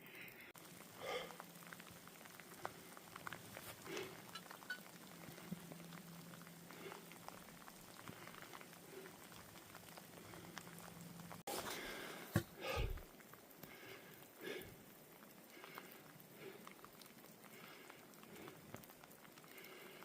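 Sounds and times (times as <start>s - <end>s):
light rain drops ticking: 0.0s - 20.0s.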